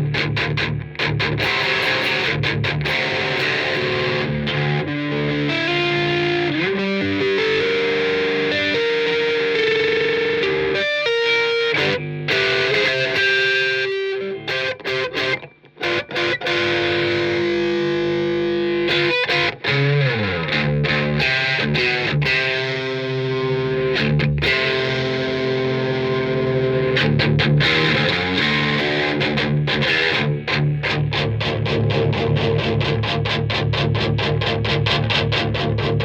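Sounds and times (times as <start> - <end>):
electric guitar chords: 0.0 - 36.0.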